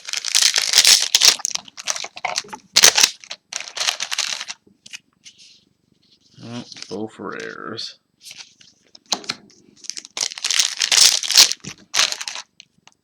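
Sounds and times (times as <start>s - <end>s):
crinkling card packs: 0.0s - 5.4s, 6.3s - 13.0s.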